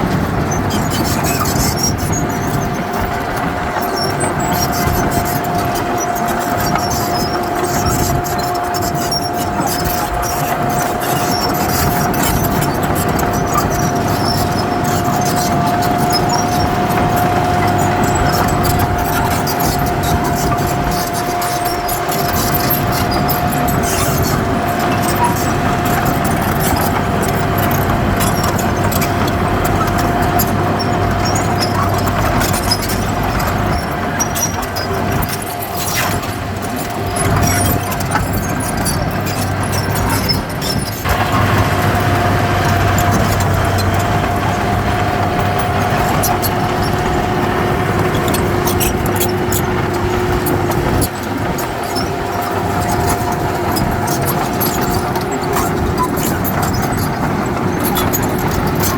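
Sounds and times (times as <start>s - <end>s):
clicks and clanks: 0.0s - 58.9s
diesel machinery engine: 0.0s - 58.9s.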